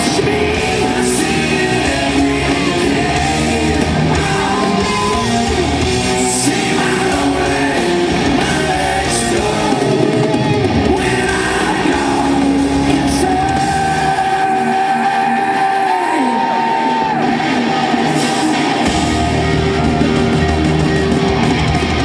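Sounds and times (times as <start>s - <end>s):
singer singing into microphone: 0.0s - 18.2s
electric guitar: 0.0s - 22.0s
live hard rock band: 0.0s - 22.0s.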